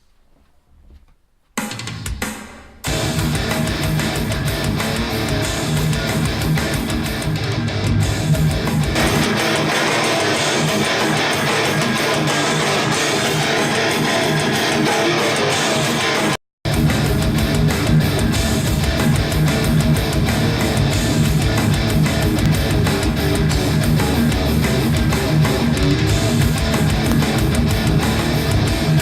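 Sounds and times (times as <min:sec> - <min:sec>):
guitar music through loudspeakers: 0:02.9 - 0:29.0.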